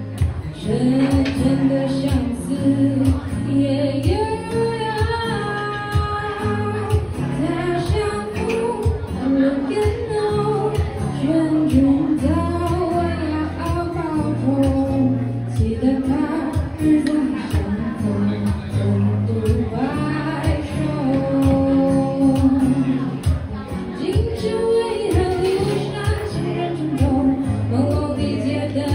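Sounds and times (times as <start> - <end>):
acoustic guitar: 0.0 - 28.9
woman singing: 0.0 - 28.9.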